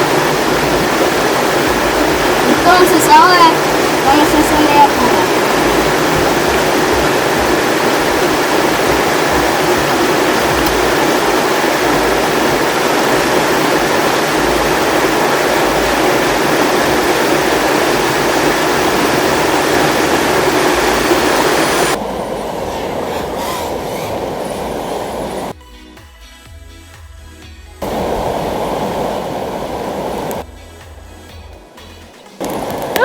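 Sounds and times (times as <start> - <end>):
loud steady rushing noise: 0.0 - 25.6, 27.8 - 30.5, 32.4 - 33.0.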